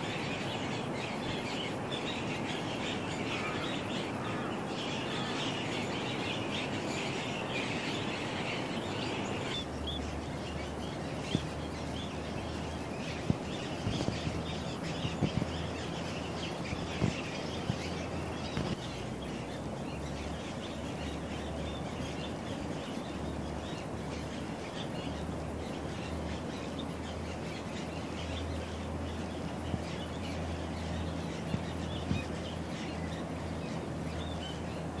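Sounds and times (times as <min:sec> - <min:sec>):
outdoor background hum: 0:00.0 - 0:35.0
small birds chirping: 0:00.0 - 0:35.0.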